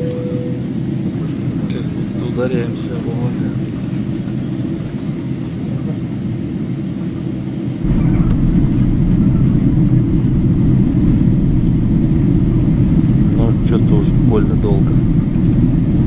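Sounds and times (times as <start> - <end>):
jet engine and airflow rush: 0.0 - 16.0.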